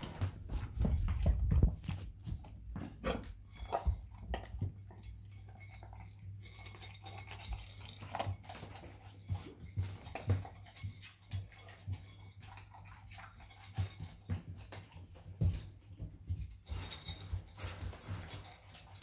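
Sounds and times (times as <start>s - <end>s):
puppy crunching kibble: 0.9s - 19.0s
kibble clinking against bowl: 3.2s - 19.0s.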